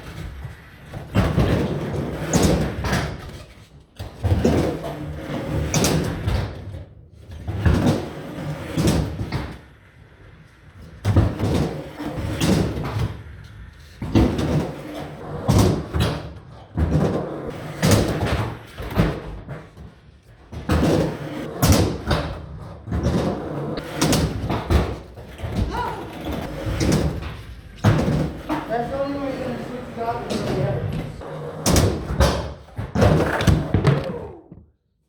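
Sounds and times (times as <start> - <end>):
skateboard clacks and slams: 0.0 - 9.7, 11.0 - 13.3, 13.9 - 29.2, 29.8 - 34.8
skateboard wheels rolling: 0.0 - 34.9.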